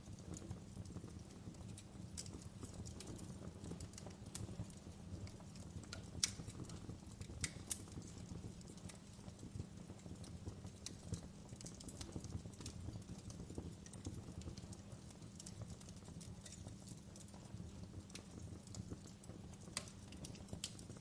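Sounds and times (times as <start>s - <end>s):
fire crackling and popping: 0.0s - 21.0s
fire flames rumbling: 0.0s - 21.0s.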